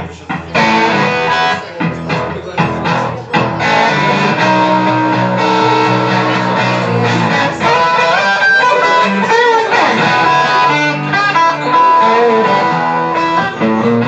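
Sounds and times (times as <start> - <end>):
electric guitar blues phrase: 0.0 - 14.0.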